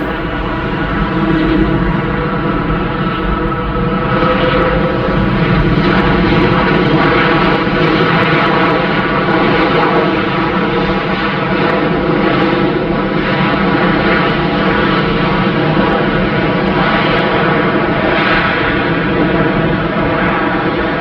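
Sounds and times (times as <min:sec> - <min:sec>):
jet engines taking off: 0:00.0 - 0:21.0.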